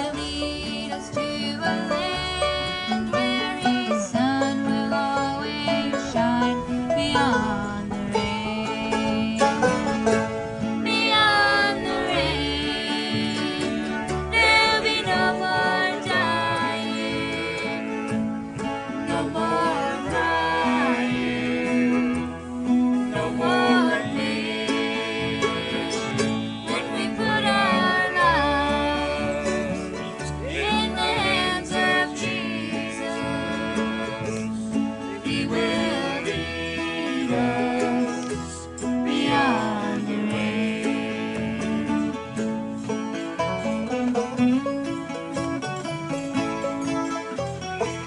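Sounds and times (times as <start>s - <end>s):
acoustic band playing country music: 0.0s - 48.0s.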